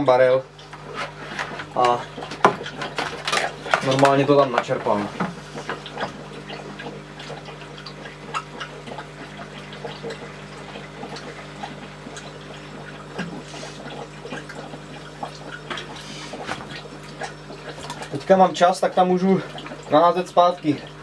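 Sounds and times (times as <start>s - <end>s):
water pump humming: 0.0s - 21.0s
water splashing and trickling: 0.5s - 21.0s.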